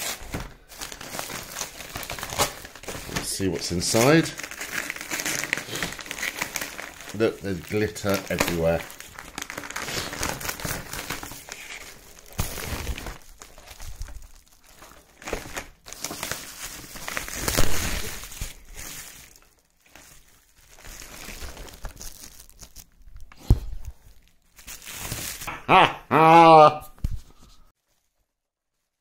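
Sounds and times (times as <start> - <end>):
bubble wrap and paper crinkling: 0.0 - 25.8, 26.8 - 29.0.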